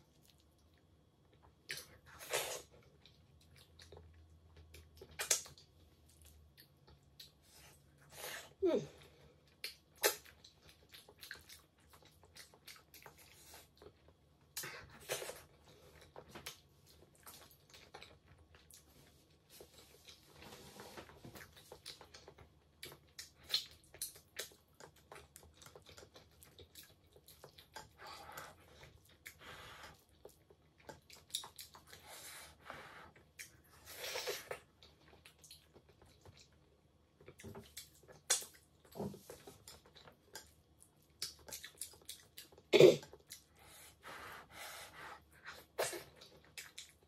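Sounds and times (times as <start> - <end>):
person chewing food: 0.0 - 8.1, 9.0 - 44.1, 44.9 - 47.0.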